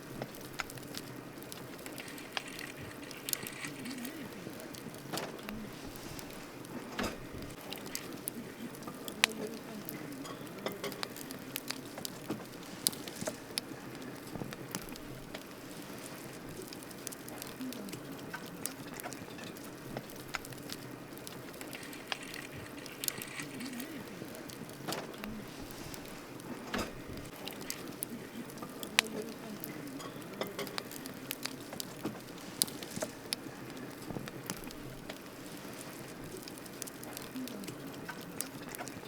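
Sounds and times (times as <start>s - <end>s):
flames rustling: 0.0s - 39.0s
wood crackling and popping: 0.0s - 39.0s.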